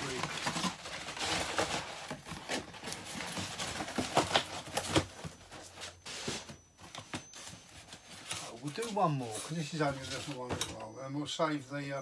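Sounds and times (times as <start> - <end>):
cardboard boxes rustling and scraping: 0.0 - 10.7.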